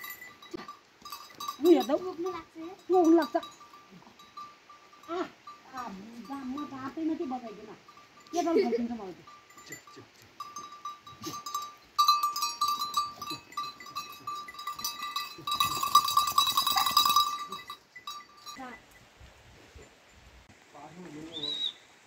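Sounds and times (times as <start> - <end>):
sheep bells jingling: 0.0 - 19.2.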